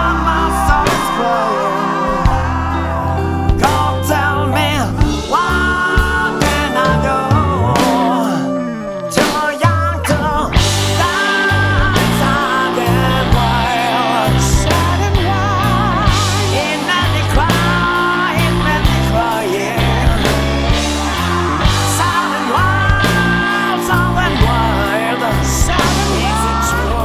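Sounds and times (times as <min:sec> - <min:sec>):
bass line: 0:00.0 - 0:27.0
drums: 0:00.0 - 0:27.0.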